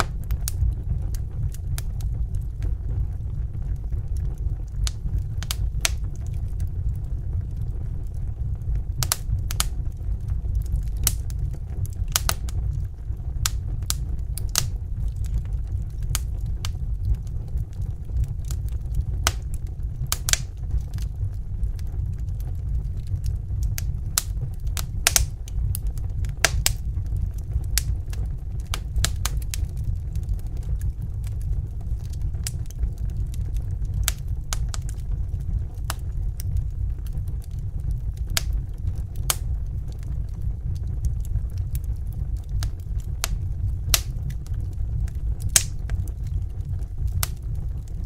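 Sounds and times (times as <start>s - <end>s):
low rumble of burning: 0.0s - 48.0s
wood fire crackling: 0.0s - 48.0s.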